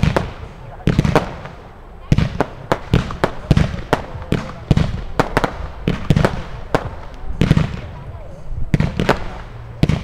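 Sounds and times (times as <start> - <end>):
firework cake bangs: 0.0 - 10.0.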